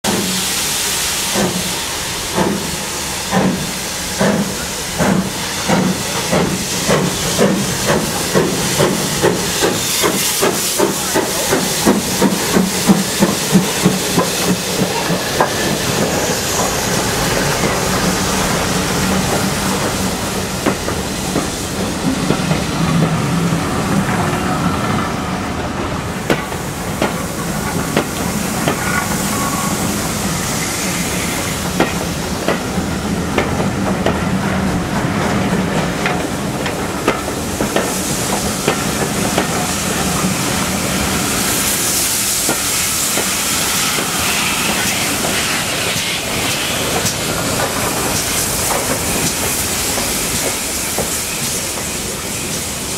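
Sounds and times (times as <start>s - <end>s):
steam hiss: 0.1s - 52.9s
steam locomotive chuffing: 0.1s - 52.9s.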